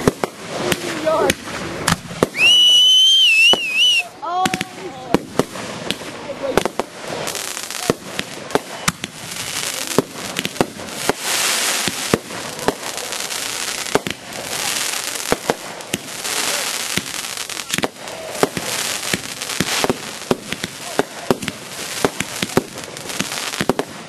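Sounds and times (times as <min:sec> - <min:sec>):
fireworks bangs and pops: 0:00.0 - 0:24.0
hissing crackle of fireworks: 0:00.0 - 0:24.0.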